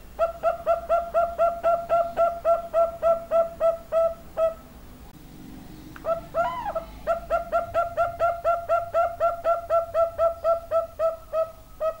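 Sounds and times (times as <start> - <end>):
dove cooing: 0.0 - 4.7, 6.0 - 12.0.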